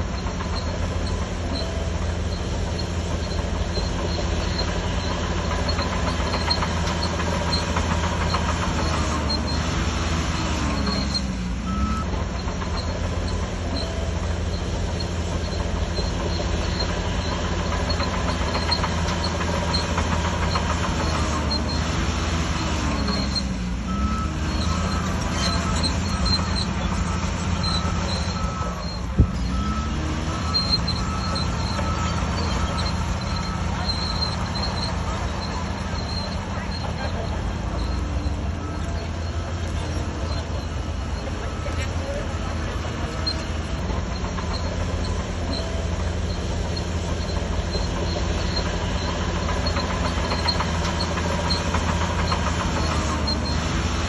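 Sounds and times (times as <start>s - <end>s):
bulldozer diesel engine under load: 0.0s - 54.0s
tracks squeaking and clanking: 0.0s - 54.0s.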